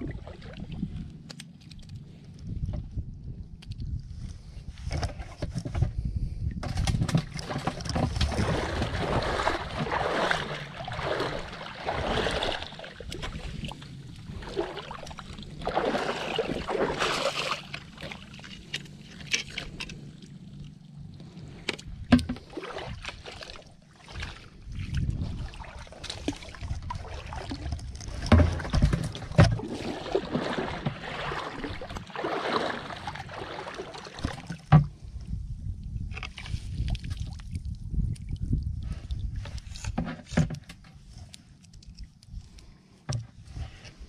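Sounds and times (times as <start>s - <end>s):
water sloshing and splashing: 0.0s - 3.0s, 6.5s - 35.4s, 36.0s - 44.0s.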